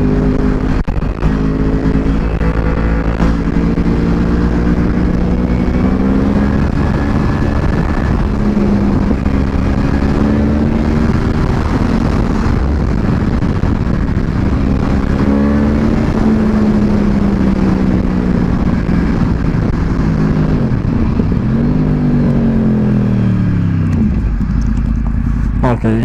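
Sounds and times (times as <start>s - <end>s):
heavy rush of noise: 0.0s - 26.0s
motorcycle engine running: 0.0s - 26.0s.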